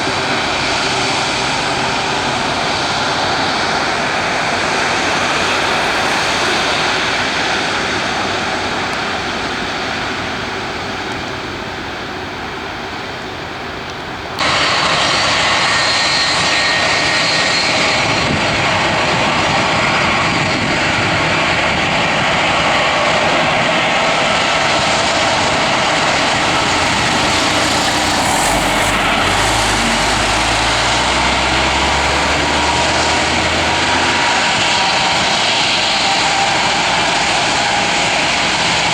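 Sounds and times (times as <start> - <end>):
airliner engines roaring: 0.0 - 38.9.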